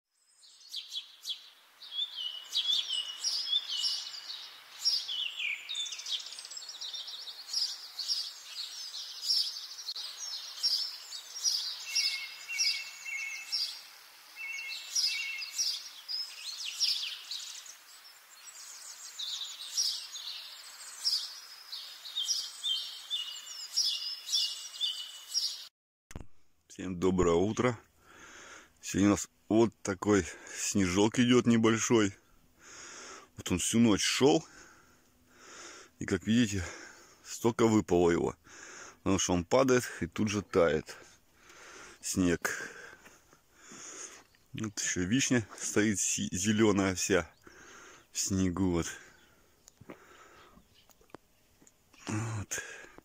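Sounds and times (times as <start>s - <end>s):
songbirds singing: 0.1s - 25.7s, 27.3s - 53.0s.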